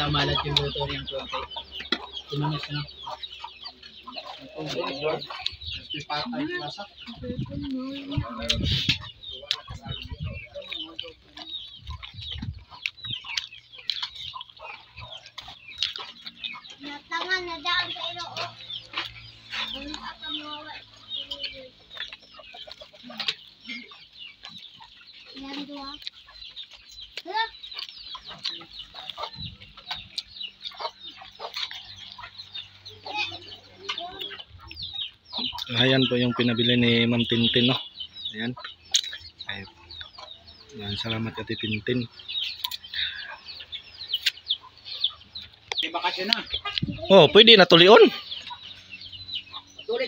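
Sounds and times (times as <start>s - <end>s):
chickens clucking and chirping: 0.0s - 50.0s.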